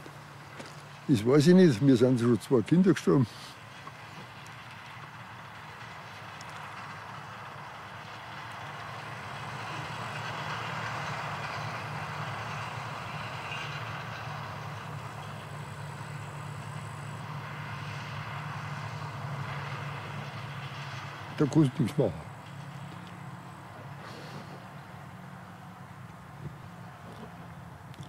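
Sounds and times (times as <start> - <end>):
distant vehicle engine drone: 0.0 - 28.0.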